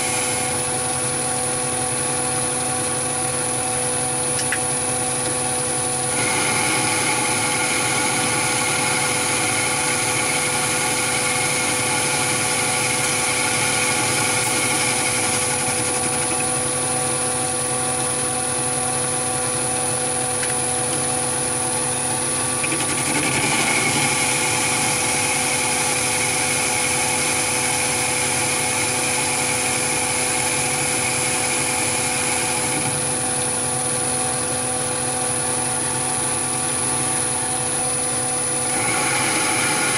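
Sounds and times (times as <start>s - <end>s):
high motor whine with hiss: 0.0s - 39.9s
lathe motor and gear hum: 0.0s - 39.9s.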